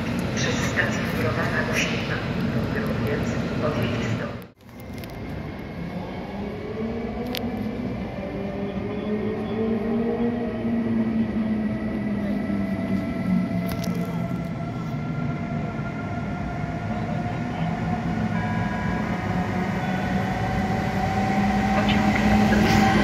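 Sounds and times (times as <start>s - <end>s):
electric locomotive rumbling: 0.0s - 23.0s.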